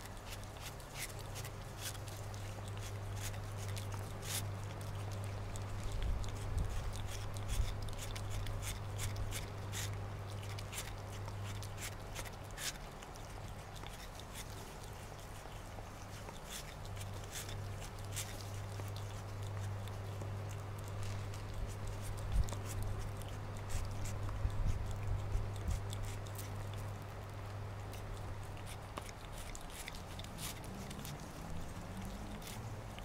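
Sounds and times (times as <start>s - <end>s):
cat chewing and licking: 0.0s - 33.0s.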